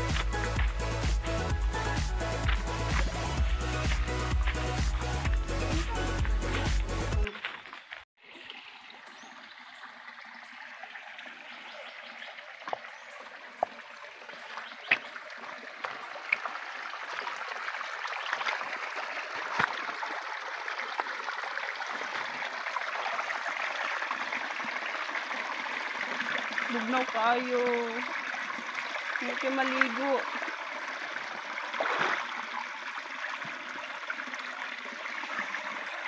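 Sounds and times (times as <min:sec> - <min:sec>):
stream running over rocks: 0:00.0 - 0:36.0.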